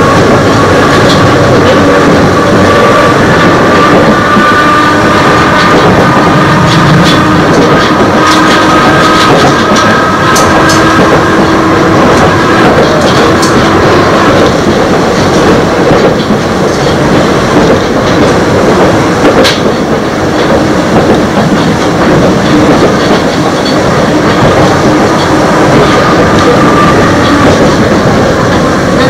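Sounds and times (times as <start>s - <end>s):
train rumble on board: 0.0s - 29.0s.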